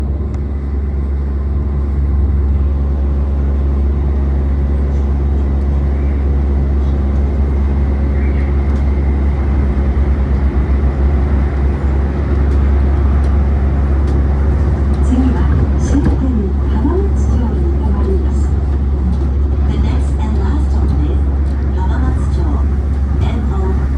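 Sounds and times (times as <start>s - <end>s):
monorail cabin rumble and hum: 0.0s - 23.9s.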